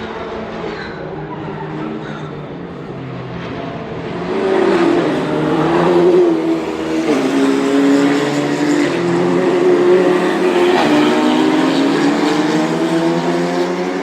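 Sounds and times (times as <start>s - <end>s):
racing car engine at high revs: 0.0s - 14.0s.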